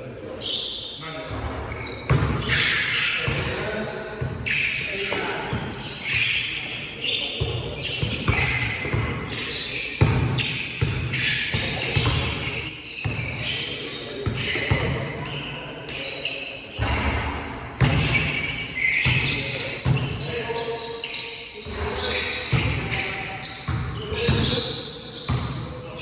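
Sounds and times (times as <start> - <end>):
players' voices: 0.0 - 26.0.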